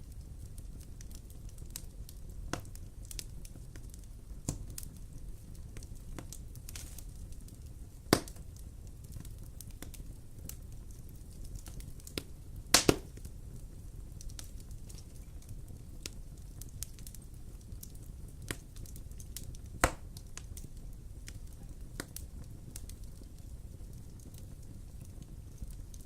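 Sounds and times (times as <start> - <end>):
fire crackling: 0.0 - 26.0
low rumble of flames: 0.0 - 26.0
loud fire pops: 0.1 - 26.0.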